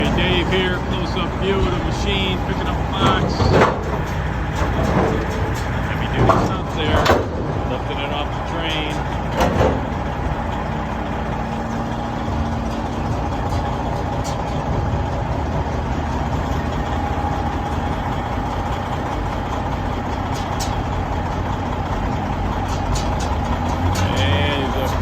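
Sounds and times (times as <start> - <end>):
constant high whine: 0.0 - 25.0
heavy diesel engines running: 0.0 - 25.0.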